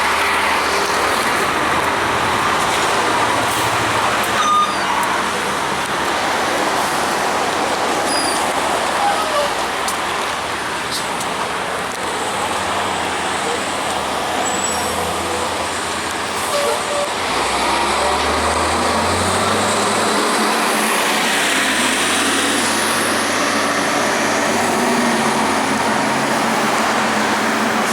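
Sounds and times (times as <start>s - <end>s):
bus diesel engine: 0.0s - 27.9s
road noise: 0.0s - 27.9s.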